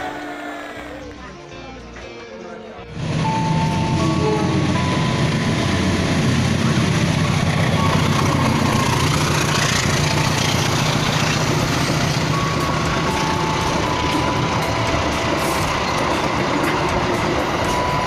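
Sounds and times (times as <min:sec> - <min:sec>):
train droning hum: 0:02.9 - 0:18.0.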